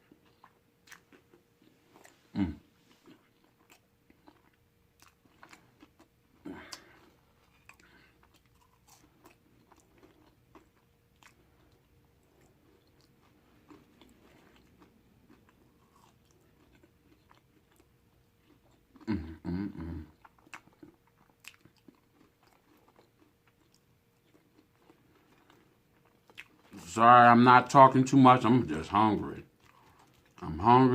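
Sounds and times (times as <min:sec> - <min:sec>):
person chewing food: 0:00.0 - 0:27.0, 0:28.7 - 0:30.7.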